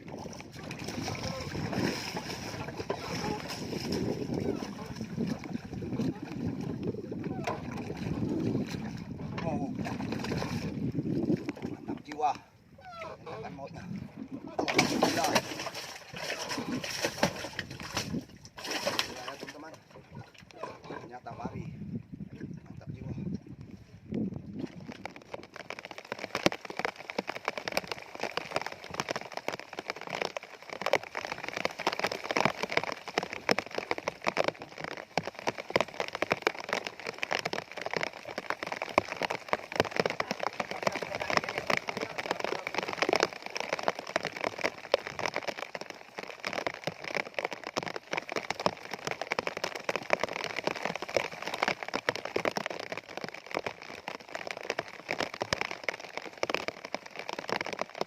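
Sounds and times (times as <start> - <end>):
steady rain: 0.0 - 21.6, 23.6 - 58.0.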